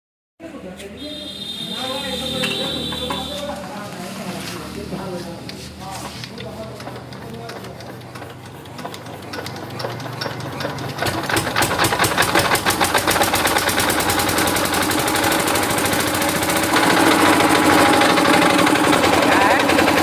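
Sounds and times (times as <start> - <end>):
generator engine starting: 1.2 - 20.0.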